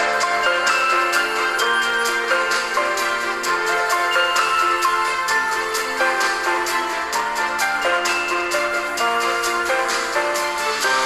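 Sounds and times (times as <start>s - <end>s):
electronic ringtone music: 0.0s - 11.0s.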